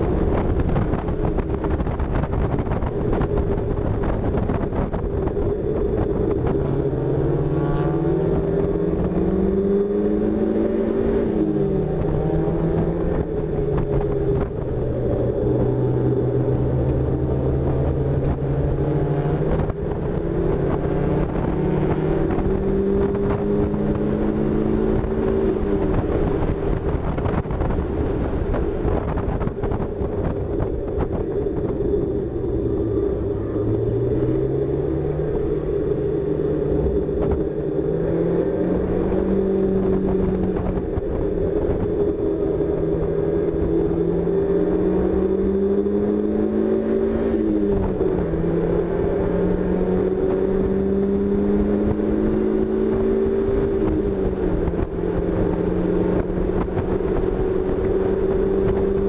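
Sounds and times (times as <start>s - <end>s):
wind noise rushing: 0.0s - 7.4s, 8.0s - 59.0s
car engine under acceleration: 0.0s - 59.0s.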